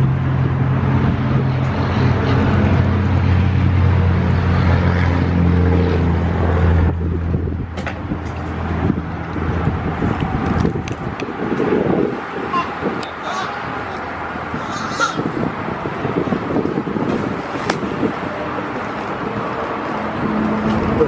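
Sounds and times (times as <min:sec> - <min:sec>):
vehicle engine and road hum: 0:00.0 - 0:21.0.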